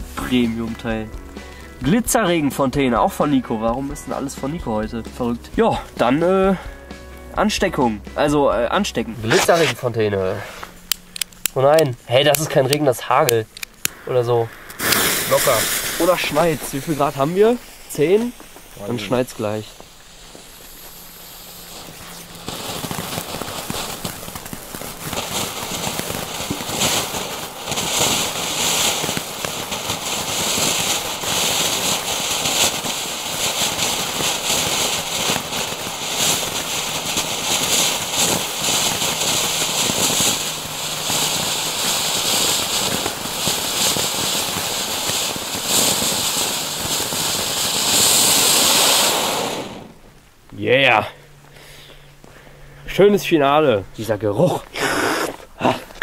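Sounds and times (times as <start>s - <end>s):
firework fountain hissing and crackling: 0.0s - 56.0s.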